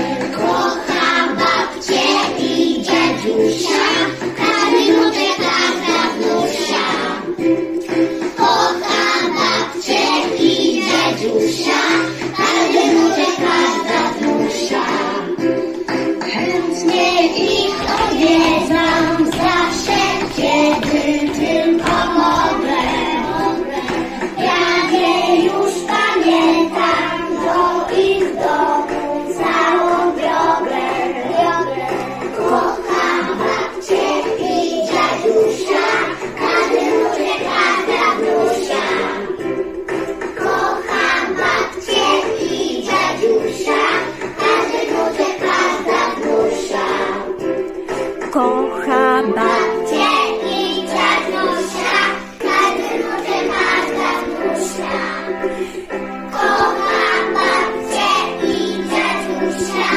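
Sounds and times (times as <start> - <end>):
backing music: 0.0 - 59.9
children singing: 0.0 - 59.9.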